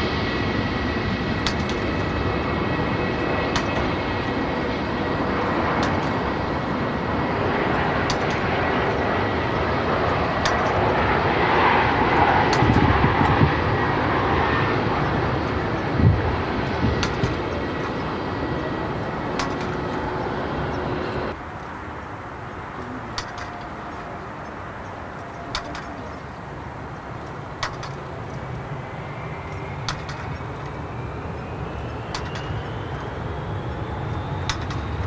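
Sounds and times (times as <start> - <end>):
jet airliner engines running: 0.0 - 35.0.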